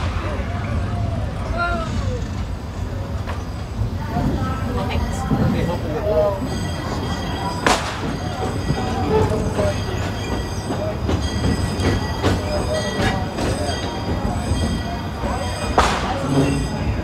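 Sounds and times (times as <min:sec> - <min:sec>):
rail joint clicks: 0:00.0 - 0:17.0
train cars rumbling on track: 0:00.0 - 0:17.0
high wheel squeal: 0:00.4 - 0:17.0.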